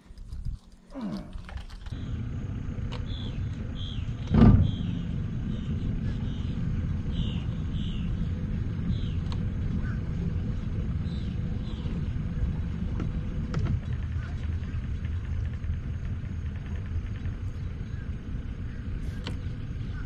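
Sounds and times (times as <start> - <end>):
outboard motor low rumble: 0.0 - 20.0.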